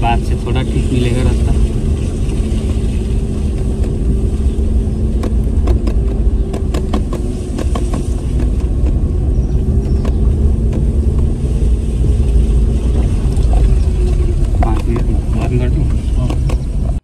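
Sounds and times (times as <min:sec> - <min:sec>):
car engine running: 0:00.0 - 0:17.0
low road rumble: 0:00.0 - 0:17.0
knocks and rattles: 0:01.4 - 0:11.4, 0:12.8 - 0:17.0.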